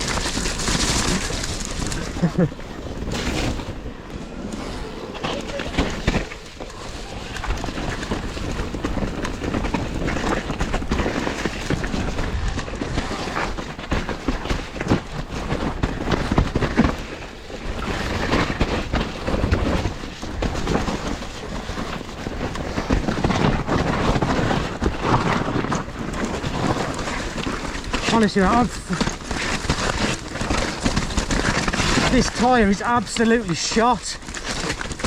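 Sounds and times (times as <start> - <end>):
bike rattling and knocking: 0.0 - 35.0
bike tyres churning through mud: 0.0 - 35.0.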